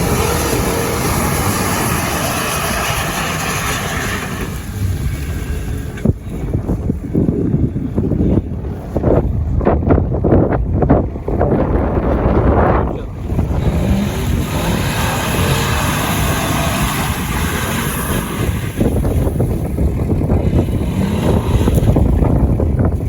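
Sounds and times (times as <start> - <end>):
vehicle engine revving: 0.0 - 6.8, 10.8 - 23.0
wind rumble on microphone: 0.0 - 23.0.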